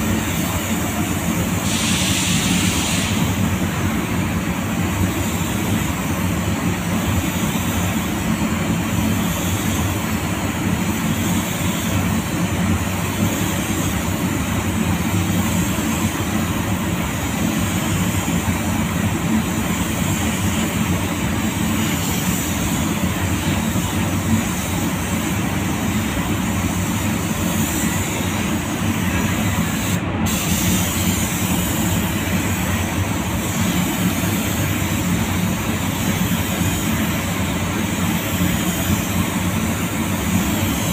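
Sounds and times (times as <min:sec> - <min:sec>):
spray gun hissing: 0:00.0 - 0:40.9.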